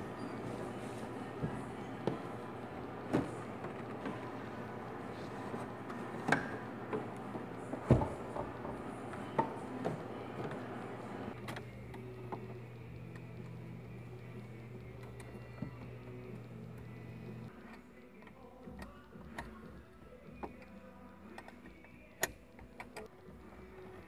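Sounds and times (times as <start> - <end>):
steady low hum: 0.0 - 21.3.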